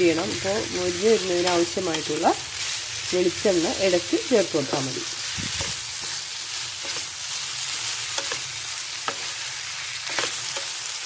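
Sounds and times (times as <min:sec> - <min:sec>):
potato sticks sizzling in oil: 0:00.0 - 0:11.0.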